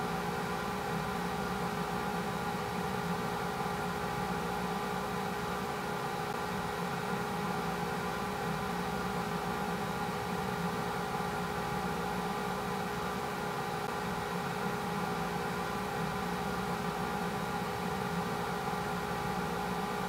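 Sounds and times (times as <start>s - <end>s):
machine hum with hiss: 0.0s - 20.0s.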